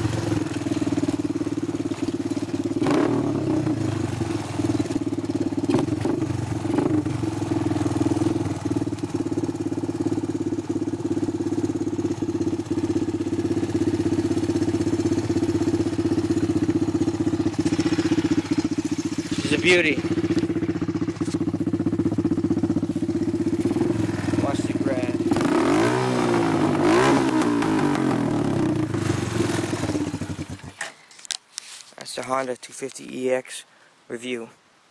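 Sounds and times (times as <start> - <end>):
atv engine running: 0.0 - 30.8.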